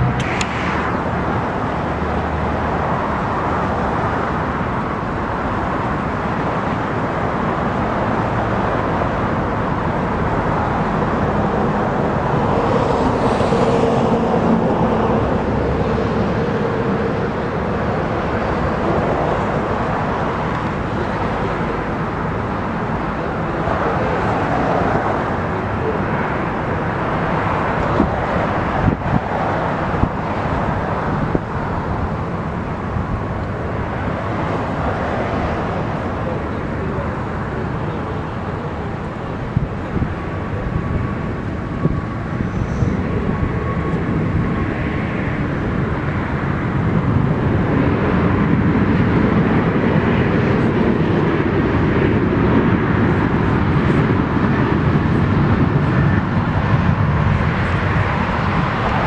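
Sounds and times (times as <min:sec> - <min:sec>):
jet engine rush: 0:00.0 - 0:59.0.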